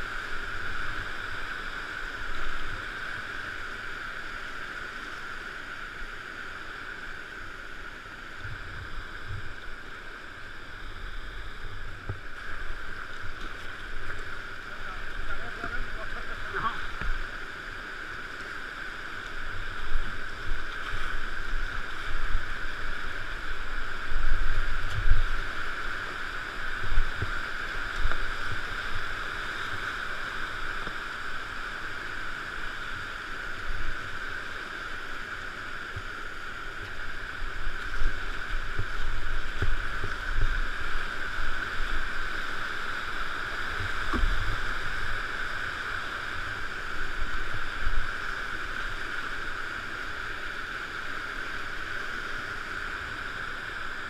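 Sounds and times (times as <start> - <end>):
whitewater rapids rushing: 0.0 - 54.0.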